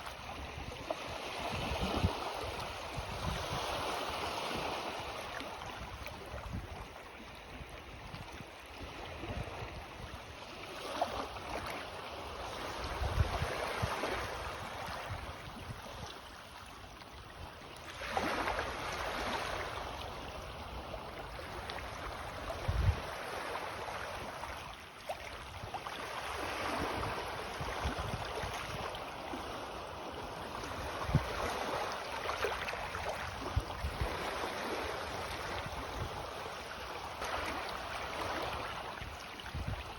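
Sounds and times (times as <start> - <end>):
sea waves washing onto shore: 0.0 - 17.2, 17.8 - 39.9.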